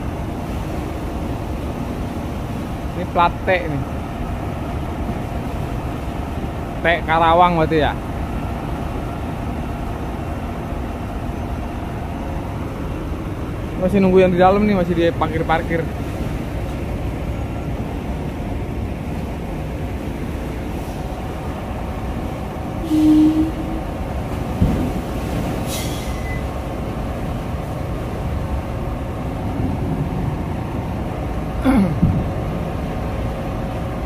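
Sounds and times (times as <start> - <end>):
diesel trucks rumbling: 0.0 - 34.0.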